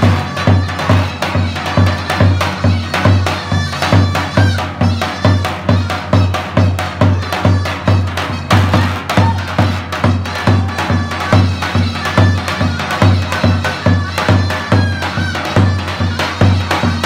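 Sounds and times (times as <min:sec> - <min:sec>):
reedy wind instrument melody: 0:00.0 - 0:17.0.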